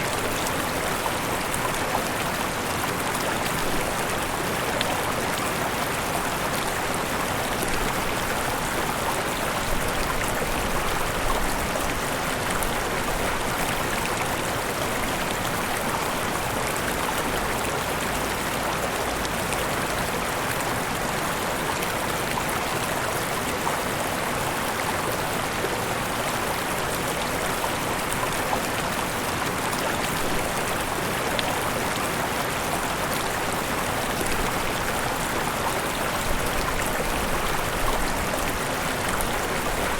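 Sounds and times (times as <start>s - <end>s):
river rushing over waterfalls: 0.0s - 39.9s.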